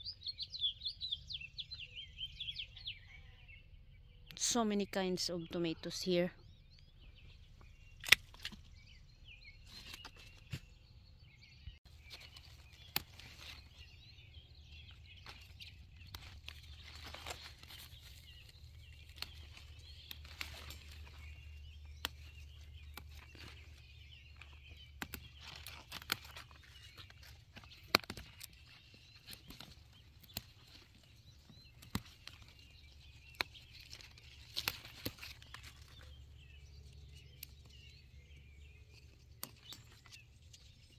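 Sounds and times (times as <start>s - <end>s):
faint birds chirping: 0.0s - 40.9s.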